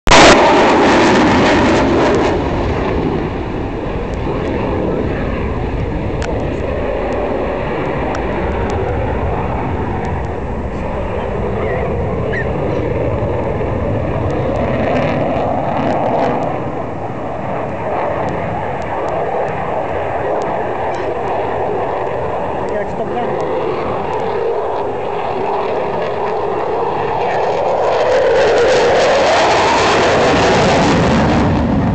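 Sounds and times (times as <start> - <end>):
jet engine roar: 0.0 - 31.9.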